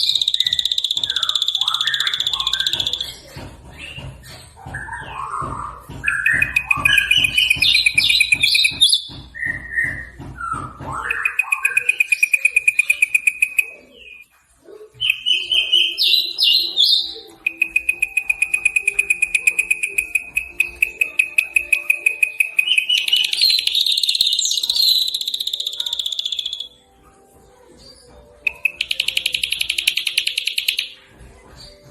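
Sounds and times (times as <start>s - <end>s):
songbirds trilling and chirping: 0.0s - 31.9s.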